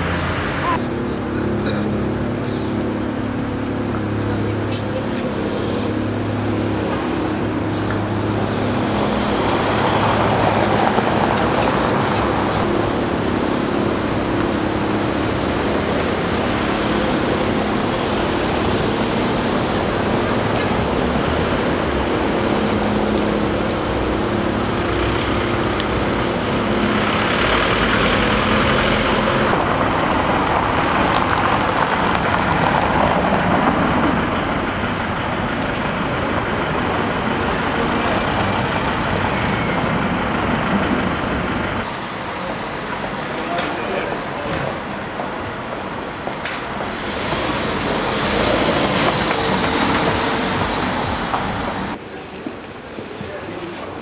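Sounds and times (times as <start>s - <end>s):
car engines running: 0.0s - 54.0s
vehicles passing: 0.0s - 54.0s.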